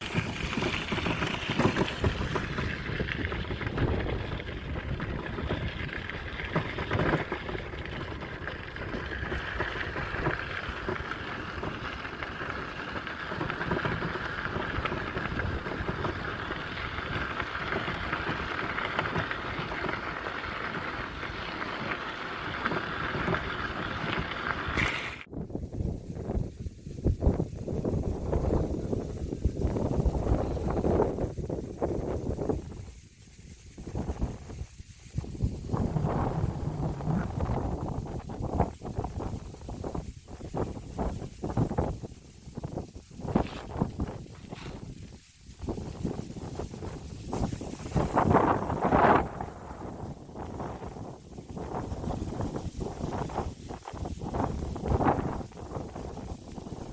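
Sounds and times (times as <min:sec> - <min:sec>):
steady rumbling noise: 0:00.0 - 0:56.9
wind buffeting microphone: 0:00.0 - 0:56.9.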